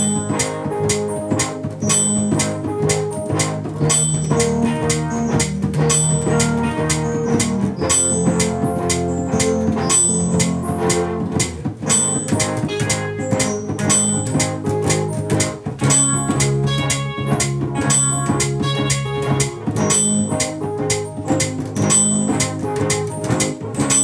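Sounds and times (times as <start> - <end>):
band playing a song: 0.0 - 24.0.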